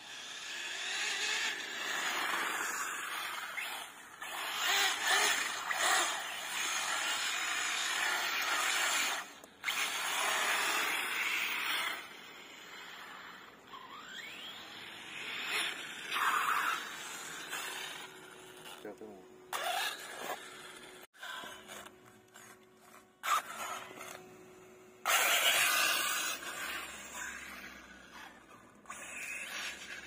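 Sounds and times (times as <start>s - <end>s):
electric rc truck motor whine: 0.0s - 30.0s.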